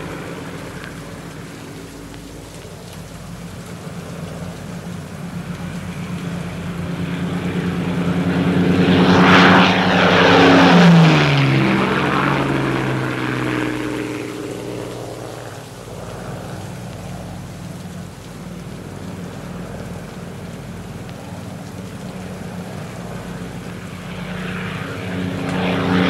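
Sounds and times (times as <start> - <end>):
propeller aircraft flying past: 0.0 - 26.0.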